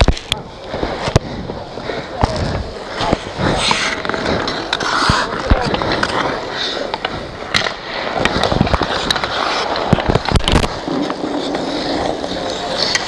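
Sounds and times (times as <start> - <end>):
skate blades scraping ice: 0.0 - 13.0
sticks and puck clacking: 0.0 - 13.0.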